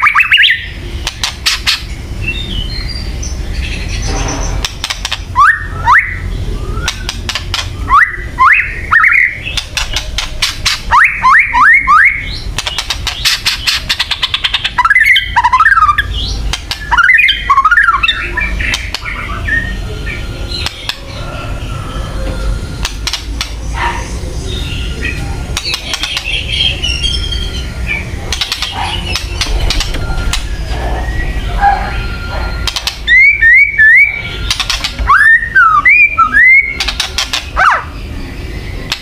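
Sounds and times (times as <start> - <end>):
bird harsh rattling calls: 0.0 - 5.9, 8.6 - 11.4, 12.2 - 19.6, 22.8 - 38.1.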